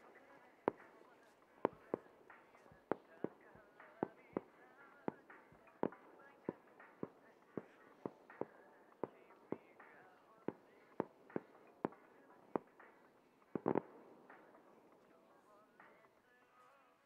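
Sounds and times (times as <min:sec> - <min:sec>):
fireworks bangs: 0:00.0 - 0:16.2.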